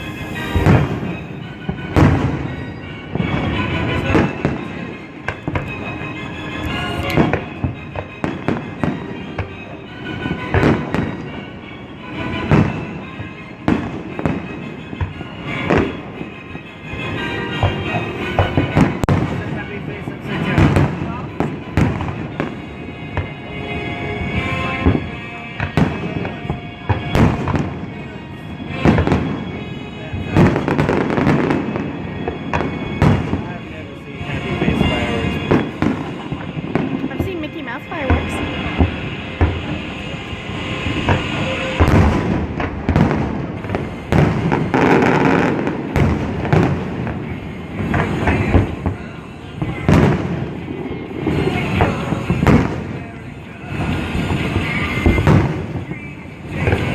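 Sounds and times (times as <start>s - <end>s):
fireworks bangs: 0.0s - 56.9s
fireworks crackle and rumble: 0.0s - 56.9s
steady music-like tones: 0.0s - 56.9s.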